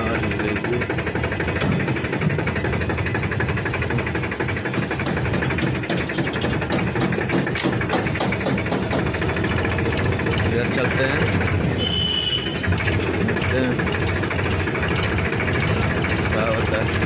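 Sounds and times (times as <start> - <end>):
sharp rattling clicks: 0.0 - 11.8, 12.5 - 17.0
tractor engine running: 0.0 - 17.0.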